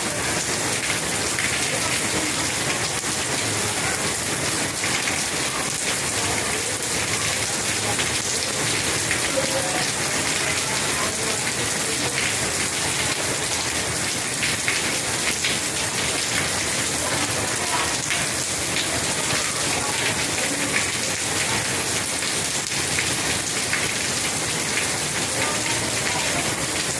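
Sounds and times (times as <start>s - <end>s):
rain pattering: 0.0s - 26.9s.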